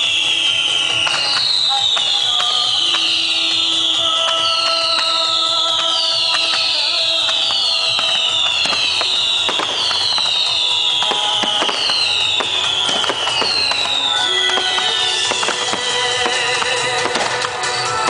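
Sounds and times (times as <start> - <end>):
fireworks bangs: 0.0 - 18.0
fireworks falling whistles: 0.0 - 18.0
crackling pops: 0.7 - 3.2, 3.8 - 17.7.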